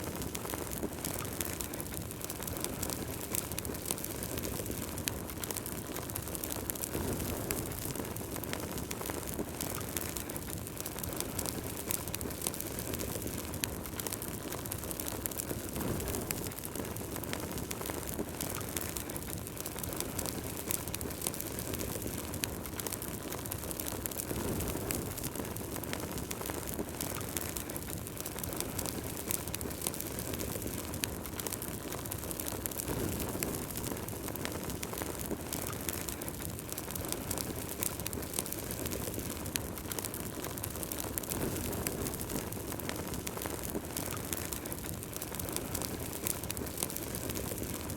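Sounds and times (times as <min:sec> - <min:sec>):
low rush of flames: 0:00.0 - 0:47.9
wood fire crackling: 0:00.0 - 0:47.9.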